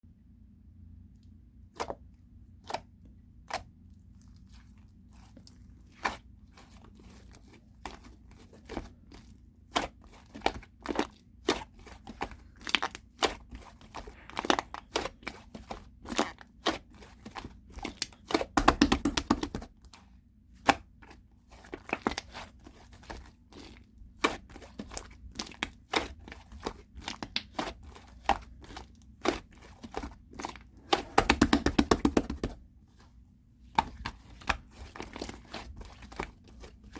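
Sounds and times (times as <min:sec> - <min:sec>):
clay slime popping and crackling: 0:05.3 - 0:19.9, 0:20.6 - 0:32.8, 0:33.6 - 0:36.9.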